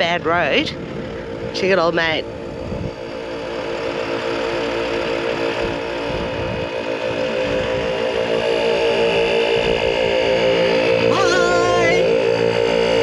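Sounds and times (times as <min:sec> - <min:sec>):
air compressor chugging: 0:00.0 - 0:13.0.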